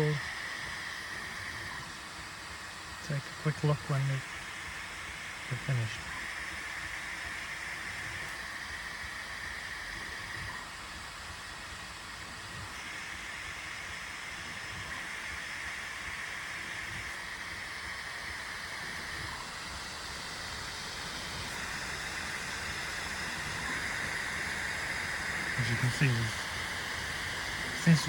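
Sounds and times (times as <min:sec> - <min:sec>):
fan noise: 0:00.0 - 0:28.0
motor whine: 0:00.0 - 0:28.0.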